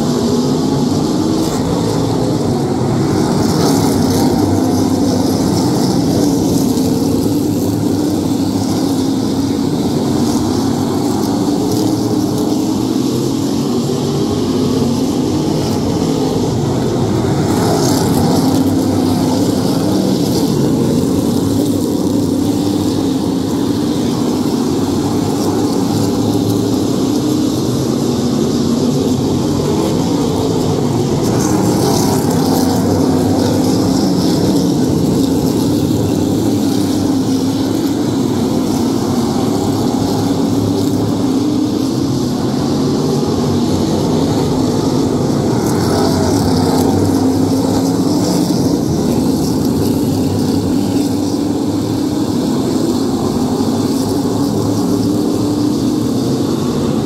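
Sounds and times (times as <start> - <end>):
many race car engines droning: 0.0 - 57.0.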